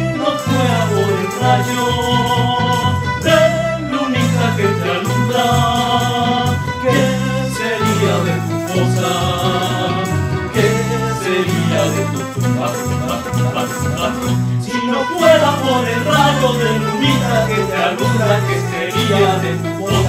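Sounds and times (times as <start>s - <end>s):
acoustic guitars strumming: 0.0s - 20.0s
mandolins strumming: 0.0s - 20.0s
men singing folk melody: 0.0s - 20.0s
piano accordion: 0.0s - 20.0s
tambourine jingles: 0.3s - 20.0s.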